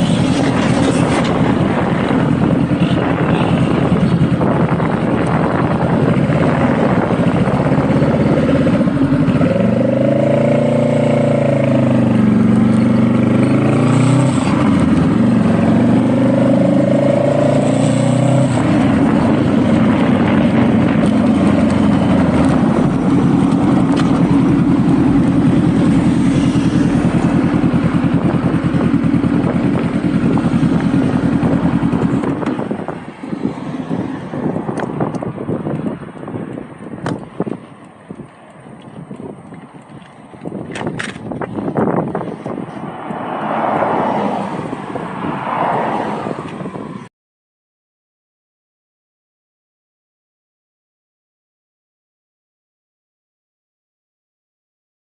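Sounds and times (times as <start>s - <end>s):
motorcycle engine while riding: 0.0s - 47.1s.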